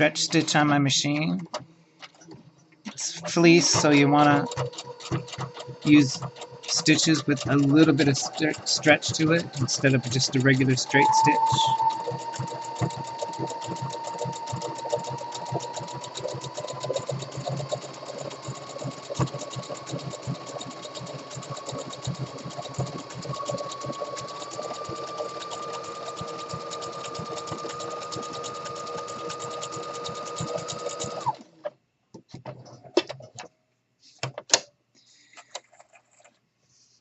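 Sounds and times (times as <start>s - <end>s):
sewing machine stitching: 0.0s - 31.8s.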